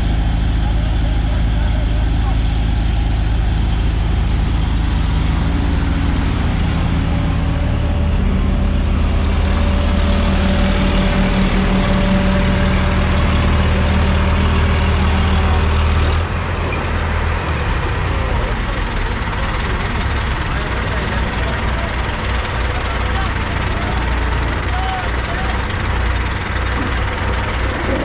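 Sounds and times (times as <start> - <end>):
crane diesel engines running: 0.0 - 28.0.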